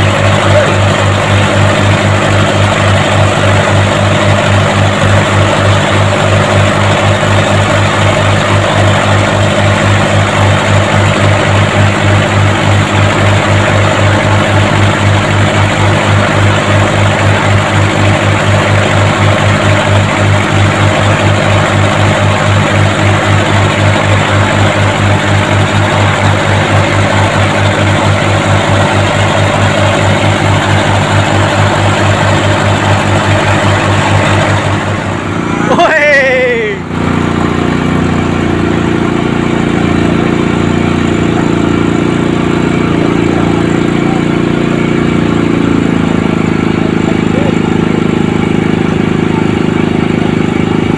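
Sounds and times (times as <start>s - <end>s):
diesel boat engine throbbing: 0.0s - 50.9s.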